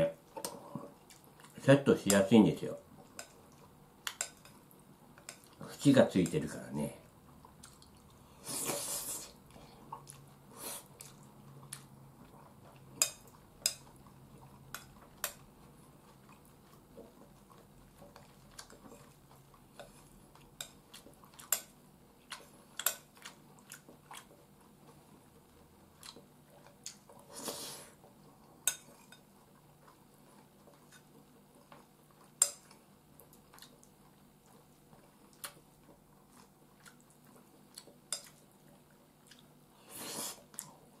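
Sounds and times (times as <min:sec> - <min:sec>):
quiet chewing: 0:00.2 - 0:02.3, 0:02.9 - 0:41.0.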